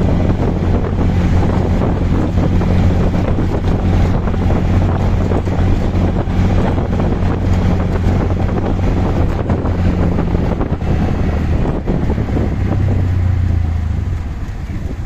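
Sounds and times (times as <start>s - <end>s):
auto-rickshaw engine humming: 0.0s - 15.0s
road noise: 0.0s - 15.0s
wind buffeting microphone: 0.0s - 15.0s.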